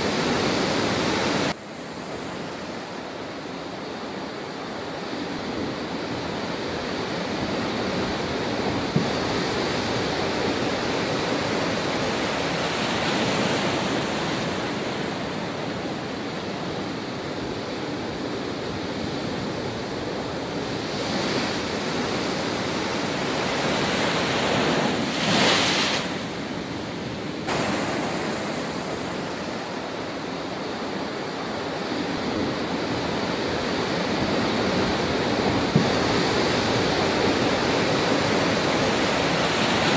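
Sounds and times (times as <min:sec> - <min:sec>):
big waves crashing on a seawall: 0:00.0 - 0:39.9.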